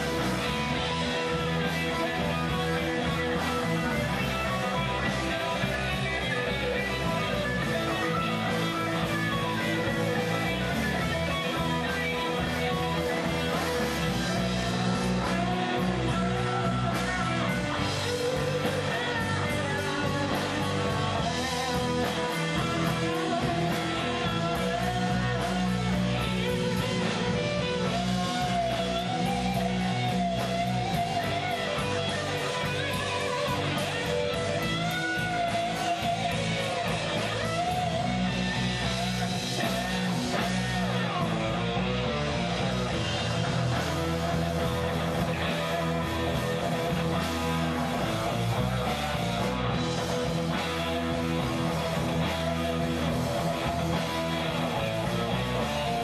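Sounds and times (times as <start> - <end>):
bass guitar: 0.0 - 56.0
drums: 0.0 - 56.0
electric guitars: 0.0 - 56.0
wavering guitar lead line: 0.0 - 56.0.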